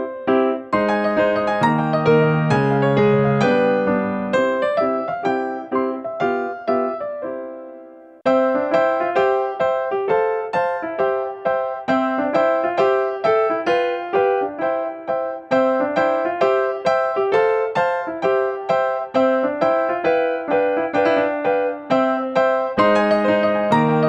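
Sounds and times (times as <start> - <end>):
simple keyboard tune: 0.0 - 24.0.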